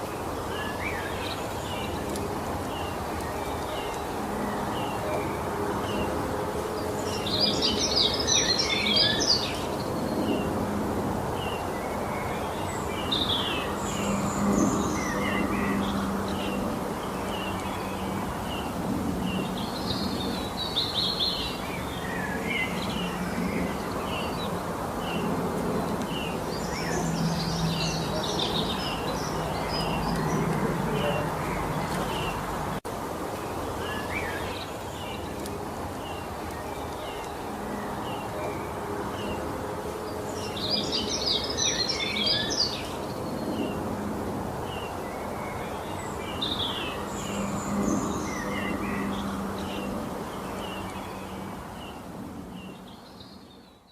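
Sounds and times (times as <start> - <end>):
small birds chirping and singing: 0.0 - 10.6, 11.3 - 43.9, 44.6 - 53.9
steady background noise: 0.0 - 53.9.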